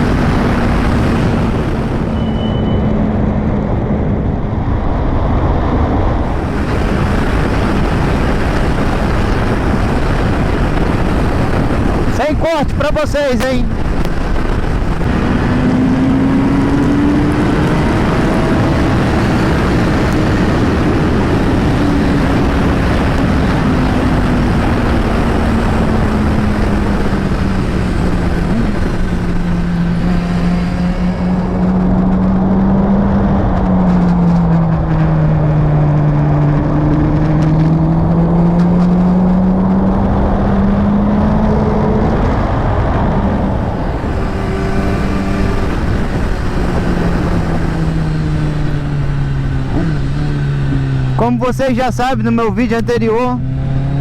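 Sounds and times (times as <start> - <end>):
motorcycle engine: 0.0 - 12.8, 13.4 - 54.0
wind noise: 0.0 - 54.0.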